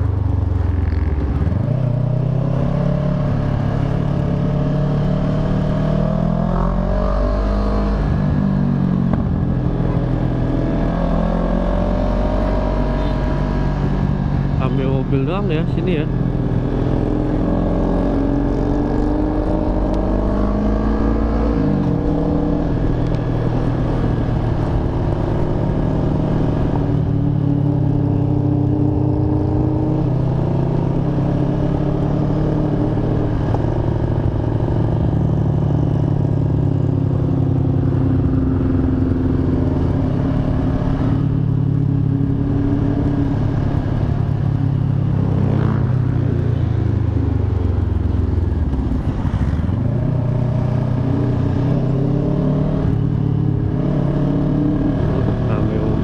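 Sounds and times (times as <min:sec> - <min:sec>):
motorcycle engine running: 0:07.3 - 0:56.0.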